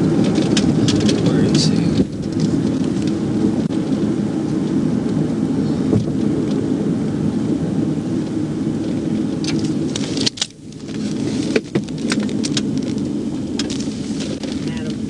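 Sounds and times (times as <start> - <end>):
crackles and clicks: 0.0 - 15.0
road and engine rumble: 0.0 - 15.0.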